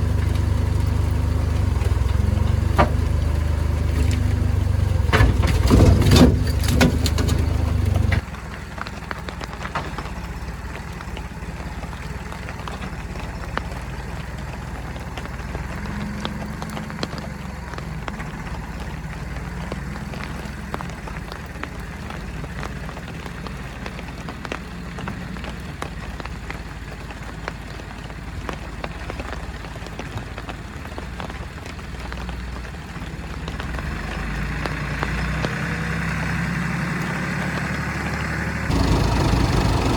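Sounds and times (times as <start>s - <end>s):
diesel engine running: 0.0s - 39.9s
engine knocks and clatter: 0.0s - 39.9s.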